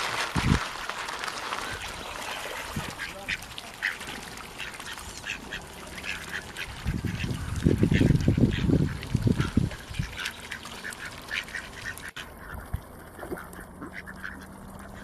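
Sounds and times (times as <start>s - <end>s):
ducks quacking: 1.6s - 15.0s.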